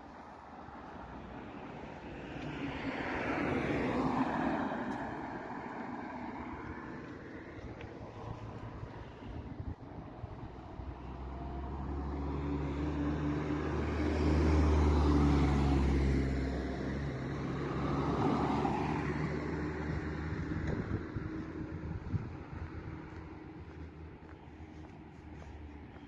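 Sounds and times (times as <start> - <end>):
vehicle engine and tyres humming: 0.0 - 26.0.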